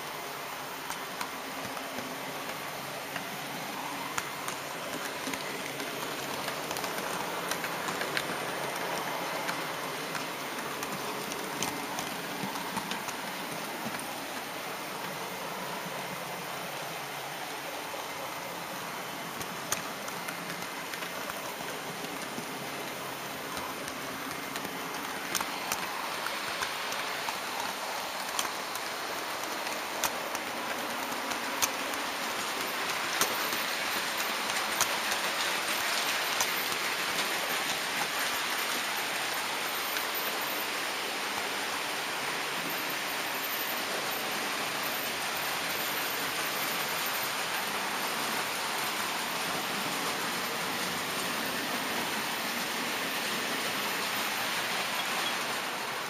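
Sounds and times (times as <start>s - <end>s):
model train wheels rushing: 0.0s - 56.0s
wheels clicking over rail joints: 0.0s - 56.0s.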